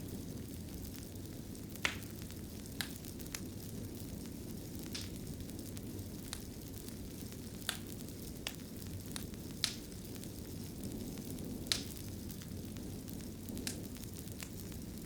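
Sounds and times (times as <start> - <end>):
fireplace fire crackling and popping: 0.0 - 15.0.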